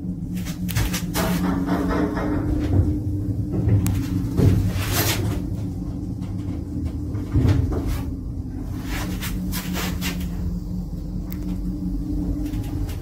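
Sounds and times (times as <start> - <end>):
elevator drive humming: 0.0 - 13.0
elevator clicks and rattles: 0.3 - 13.0.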